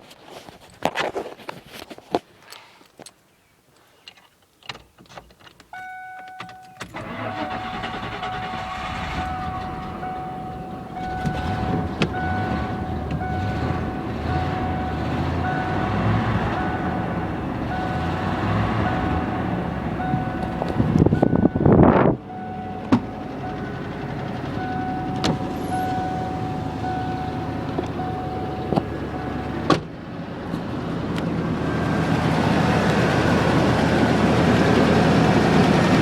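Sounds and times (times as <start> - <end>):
dashboard warning chime: 5.7 - 35.7
car engine starting and running: 5.7 - 36.0.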